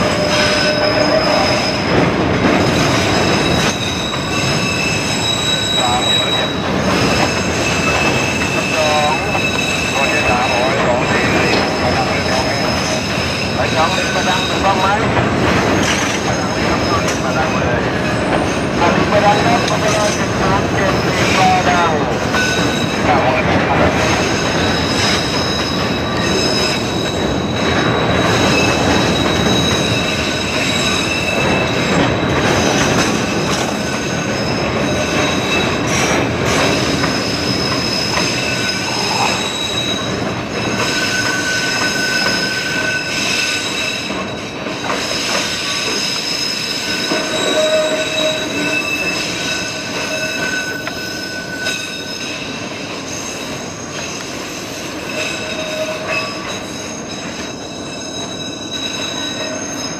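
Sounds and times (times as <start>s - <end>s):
high-pitched wheel squeal: 0.0s - 2.0s, 2.6s - 15.1s, 24.0s - 59.9s
train running on rails: 0.0s - 59.9s.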